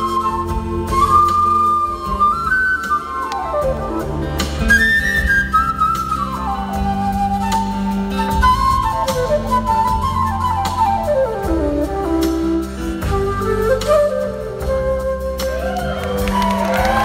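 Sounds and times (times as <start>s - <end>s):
flute melody: 0.0s - 17.0s
live band playing: 0.0s - 17.0s.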